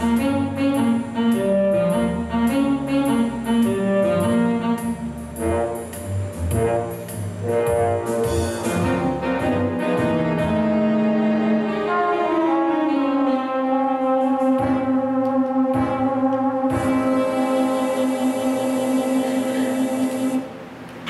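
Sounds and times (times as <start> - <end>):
slide trombone playing: 0.0 - 20.6.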